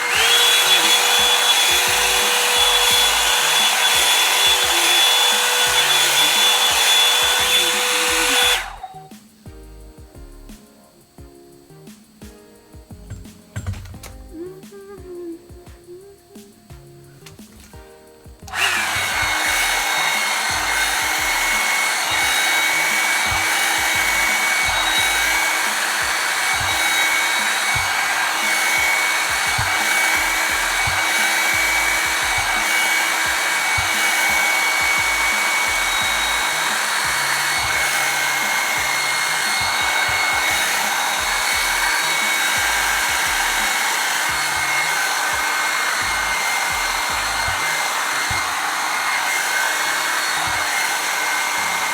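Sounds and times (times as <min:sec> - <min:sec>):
high motor whine: 0:00.0 - 0:09.1, 0:18.4 - 0:51.9
hair dryer blowing air: 0:00.0 - 0:09.4, 0:17.2 - 0:51.9.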